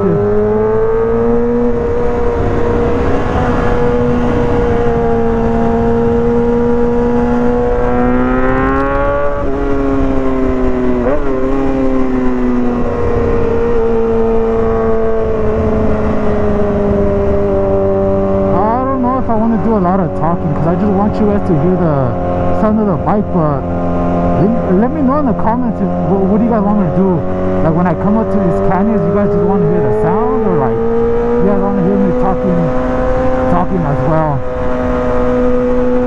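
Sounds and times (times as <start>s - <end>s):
motorcycle engine at high revs: 0.0s - 36.0s.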